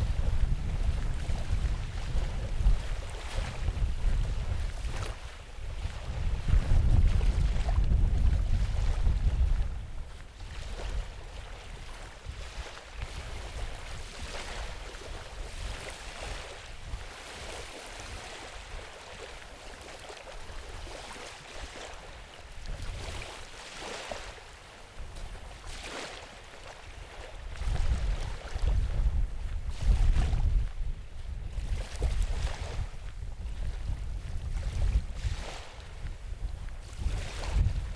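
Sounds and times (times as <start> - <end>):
wind buffeting microphone: 0.0 - 26.2, 26.9 - 37.9.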